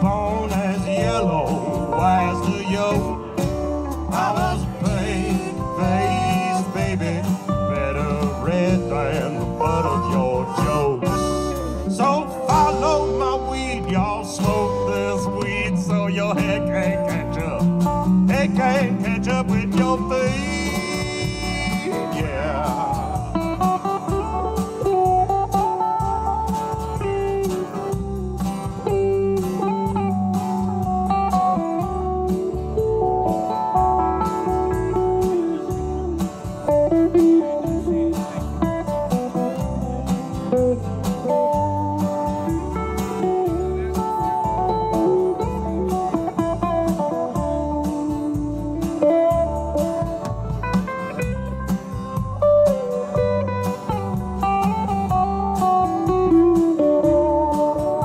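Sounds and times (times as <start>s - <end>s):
lead guitar melody: 0.0s - 58.0s
pulsing bass line: 0.0s - 58.0s
steady drum beat: 0.0s - 58.0s.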